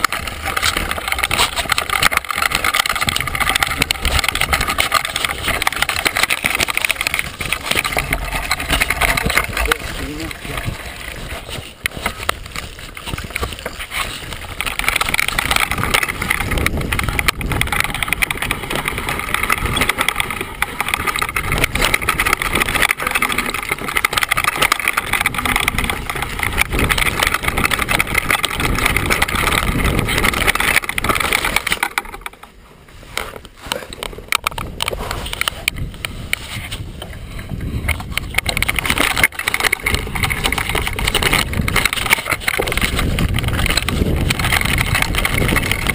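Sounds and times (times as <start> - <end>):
mountain bike clattering over rocks: 0.0 - 45.9.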